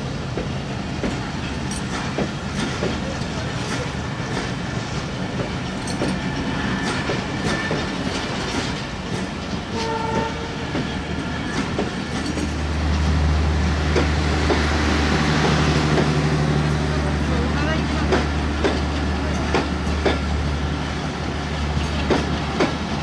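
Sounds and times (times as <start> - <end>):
train wheels clicking over rail joints: 0.0 - 16.3, 17.3 - 23.0.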